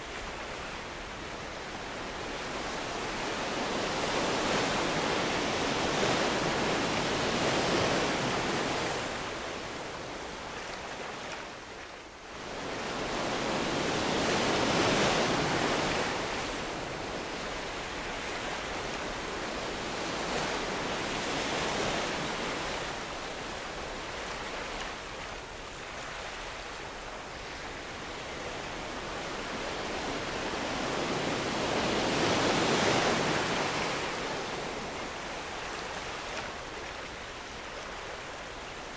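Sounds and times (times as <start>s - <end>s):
sea waves washing onto beach: 0.0s - 38.9s.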